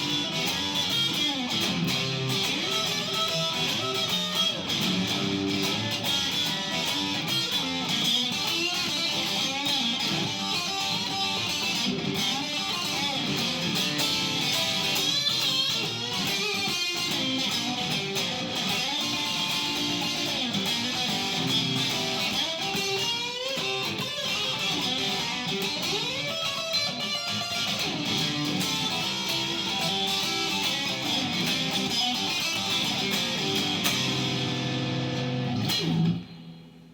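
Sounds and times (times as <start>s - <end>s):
solo blues guitar: 0.0s - 36.9s.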